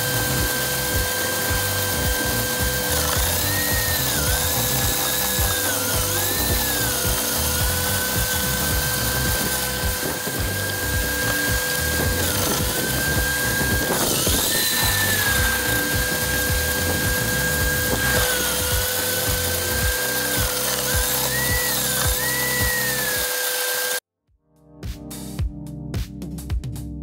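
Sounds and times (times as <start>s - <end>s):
garden shredder crunching branches: 0.0s - 24.0s.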